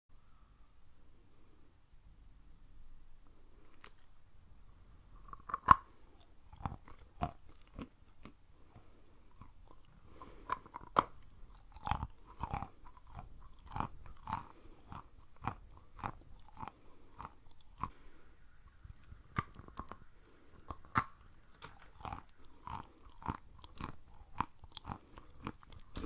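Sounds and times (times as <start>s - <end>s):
chewing chalk crunches: 5.1s - 26.0s.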